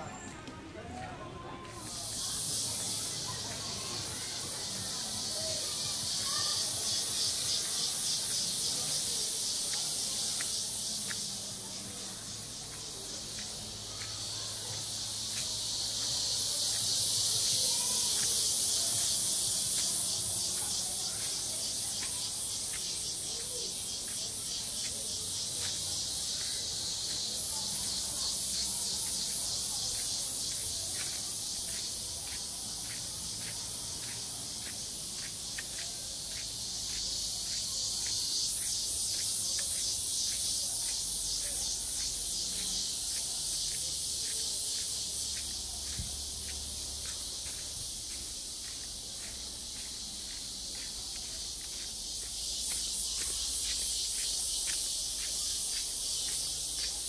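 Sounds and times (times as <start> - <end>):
insects chorus pulsing: 1.0 - 57.0.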